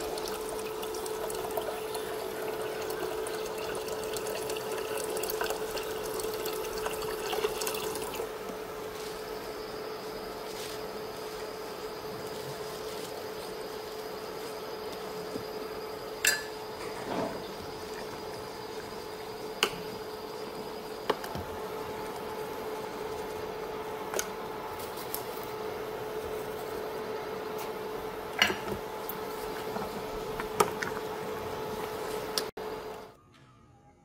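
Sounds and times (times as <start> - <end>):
soup boiling in a pot: 0.0 - 33.1.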